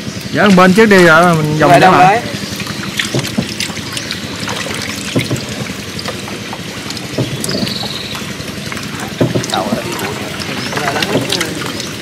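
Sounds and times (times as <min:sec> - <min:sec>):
water splashing and trickling: 0:00.0 - 0:12.0
small knocks and drips: 0:00.1 - 0:12.0.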